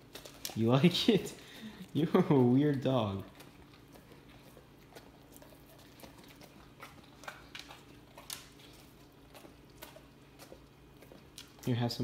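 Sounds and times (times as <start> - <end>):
dog licking lips: 0.0 - 12.0.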